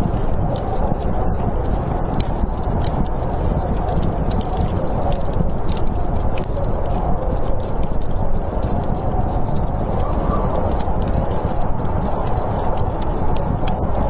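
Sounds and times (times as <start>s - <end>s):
snowstorm wind rushing: 0.0s - 14.0s
wood fire crackling and popping: 0.0s - 14.0s.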